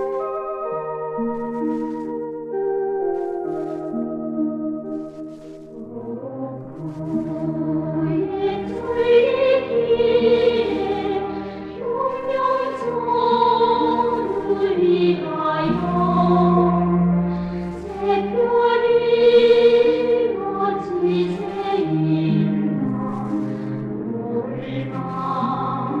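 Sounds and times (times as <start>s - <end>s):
instrumental accompaniment: 0.0s - 26.0s
choir singing: 4.7s - 26.0s.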